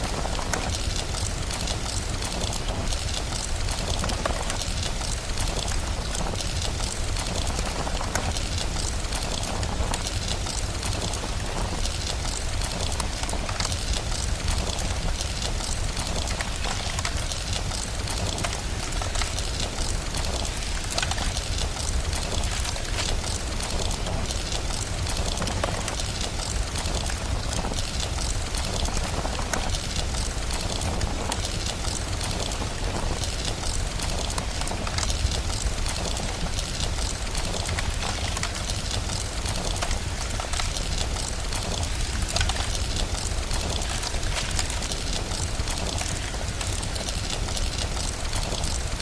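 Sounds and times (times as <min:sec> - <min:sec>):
steady rain: 0:00.0 - 0:49.0
wood fire crackling: 0:00.0 - 0:49.0.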